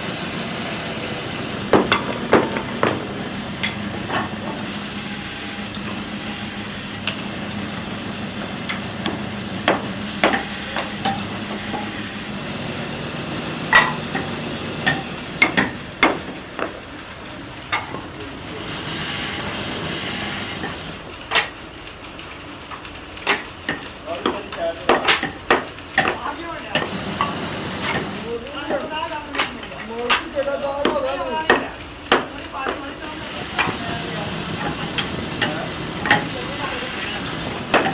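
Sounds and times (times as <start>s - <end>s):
machine hum: 0.0s - 37.9s.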